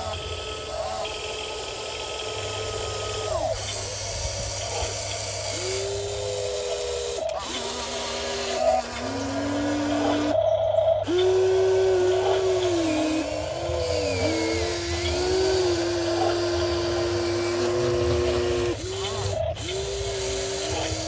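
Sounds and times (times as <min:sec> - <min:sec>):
toy excavator motors whining: 0:00.0 - 0:21.0.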